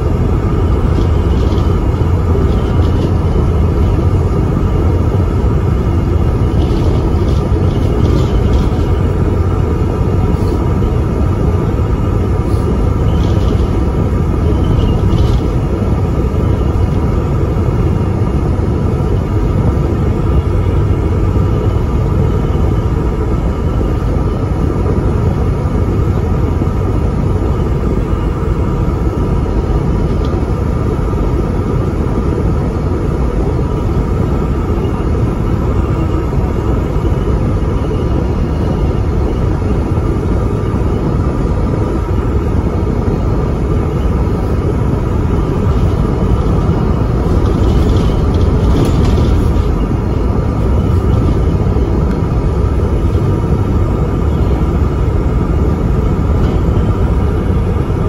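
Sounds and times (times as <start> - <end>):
bus engine rumble: 0.0 - 58.0
faint steady whine: 0.0 - 58.0.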